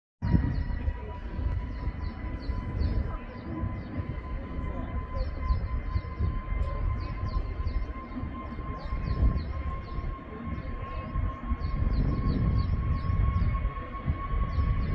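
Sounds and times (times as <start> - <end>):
jet engine whine: 0.2 - 14.9
jet engines roaring: 0.2 - 14.9.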